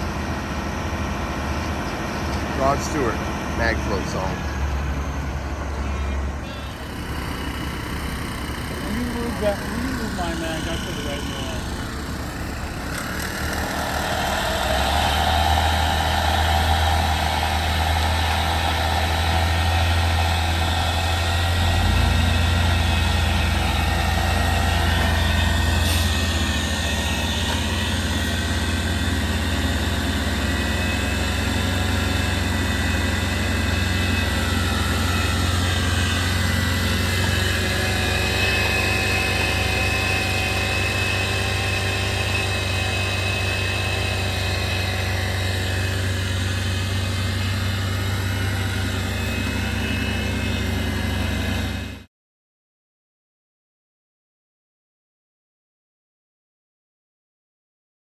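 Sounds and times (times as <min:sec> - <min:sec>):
engine humming: 0:00.0 - 0:52.1.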